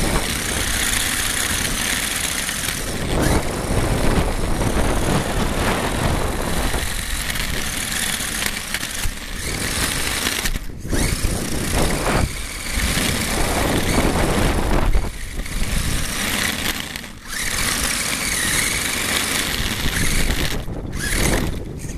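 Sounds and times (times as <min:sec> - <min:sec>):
radio-controlled car driving fast: 0:00.0 - 0:21.9.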